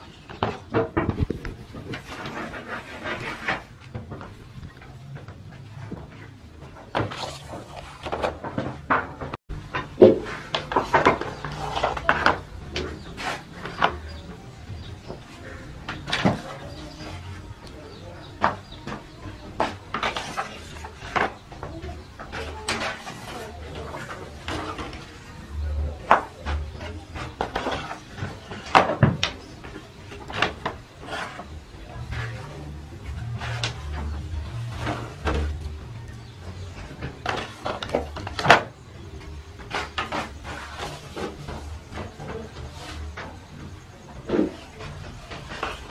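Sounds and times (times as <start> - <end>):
metal baking trays clattering: 0.0 - 45.9.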